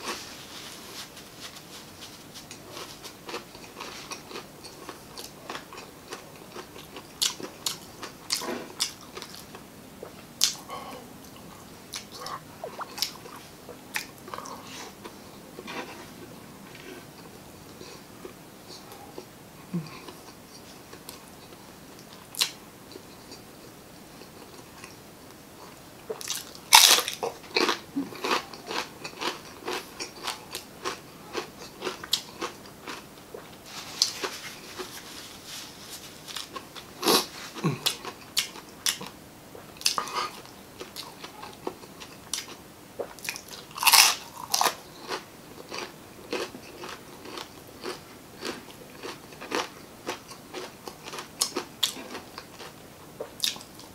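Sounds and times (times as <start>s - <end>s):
crunchy chewing: 0.0s - 25.0s, 25.6s - 53.9s.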